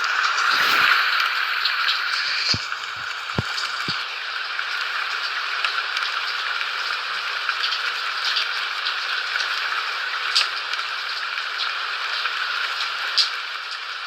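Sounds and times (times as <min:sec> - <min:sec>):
steady rain falling: 0:02.7 - 0:14.0.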